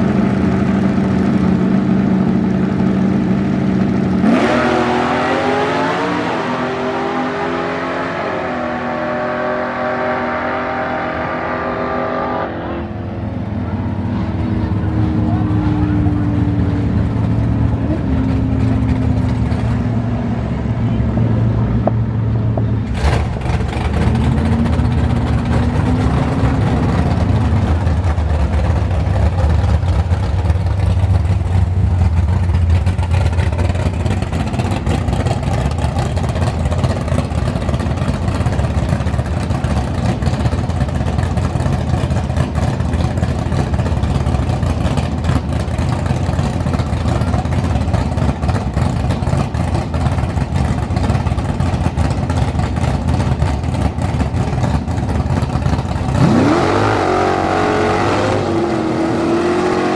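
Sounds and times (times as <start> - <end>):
muscle car engines rumbling: 0.0 - 59.9
car engine revving: 0.2 - 59.9.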